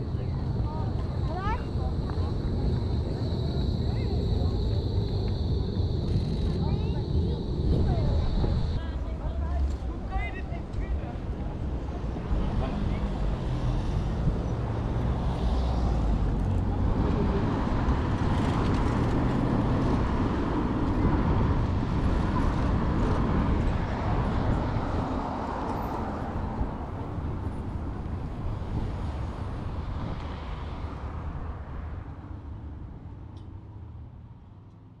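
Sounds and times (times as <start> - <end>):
passing vehicles rumbling: 0.0 - 35.0.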